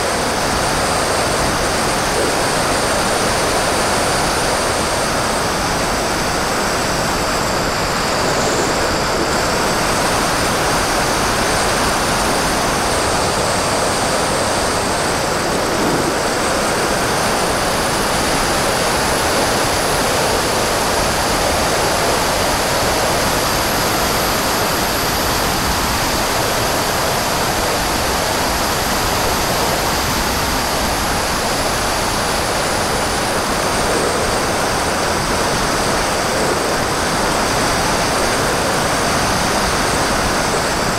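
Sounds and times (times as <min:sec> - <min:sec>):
rush of airflow: 0:00.0 - 0:40.9.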